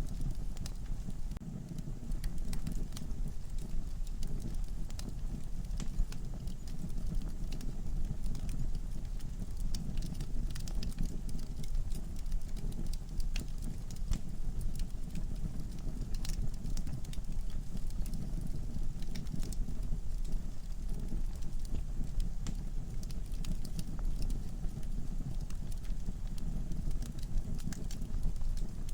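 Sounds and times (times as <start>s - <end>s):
logs crackling in a fireplace: 0.0s - 28.9s.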